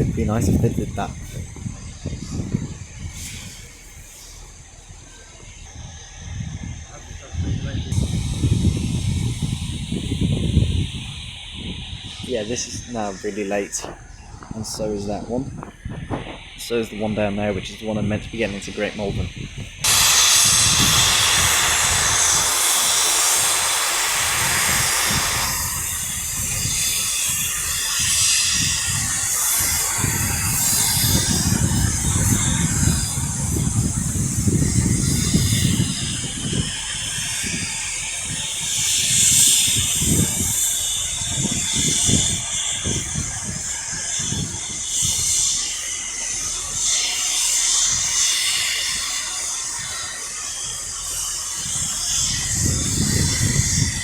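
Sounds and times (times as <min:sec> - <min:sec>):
low rumbling: 0:00.0 - 0:48.2
steam hissing: 0:00.0 - 0:54.0.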